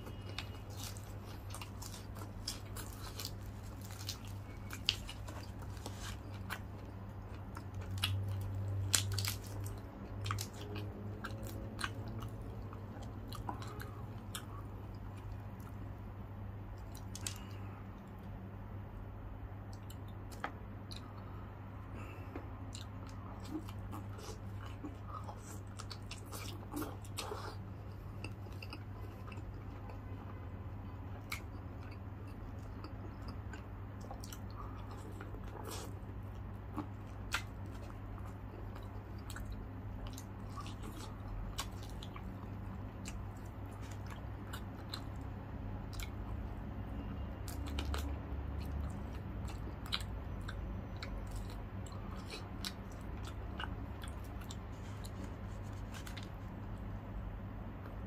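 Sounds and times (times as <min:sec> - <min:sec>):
chewing crispy fried chicken: 0:00.0 - 0:16.0, 0:16.7 - 0:18.4, 0:19.6 - 0:58.0.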